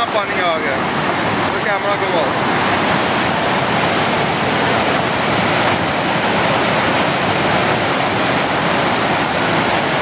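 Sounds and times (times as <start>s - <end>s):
floodwater rushing and churning: 0.0s - 10.0s.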